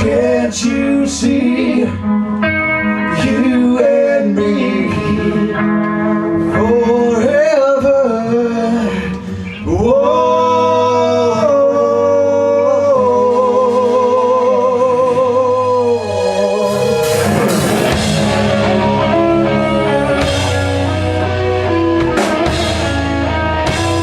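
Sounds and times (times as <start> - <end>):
person singing: 0.0 - 22.6
live rock band playing: 0.0 - 24.0.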